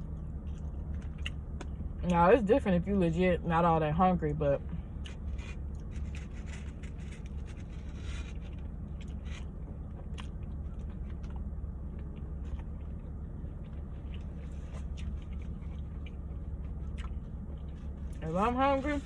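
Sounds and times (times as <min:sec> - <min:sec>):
person chewing food: 0:00.0 - 0:02.0, 0:04.9 - 0:18.2
steady low hum: 0:00.0 - 0:19.0.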